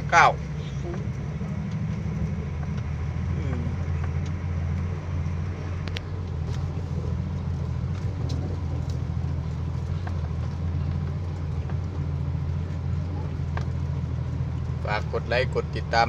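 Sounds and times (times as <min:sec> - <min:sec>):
truck engine drone: 0:00.0 - 0:16.0.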